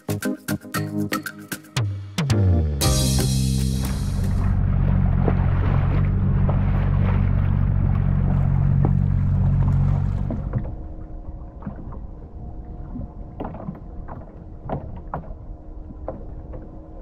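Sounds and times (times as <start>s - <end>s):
boat engine running: 2.4s - 17.0s.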